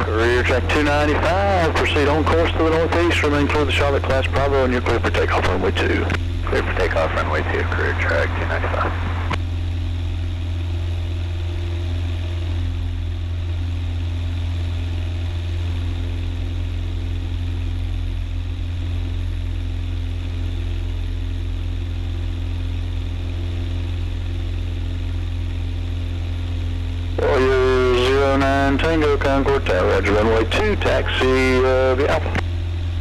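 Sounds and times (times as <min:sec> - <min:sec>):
propeller plane engine drone: 0:00.0 - 0:33.0.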